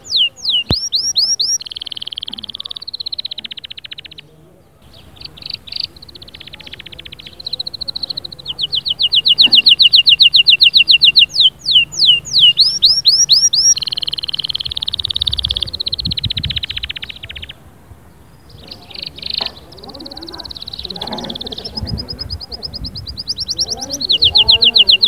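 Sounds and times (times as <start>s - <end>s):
canary singing: 0.0s - 25.0s.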